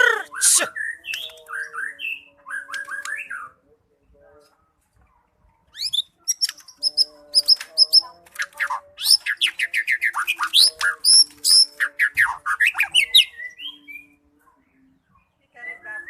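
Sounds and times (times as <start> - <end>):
bird singing rapid song: 0.2 - 3.6, 5.7 - 16.0.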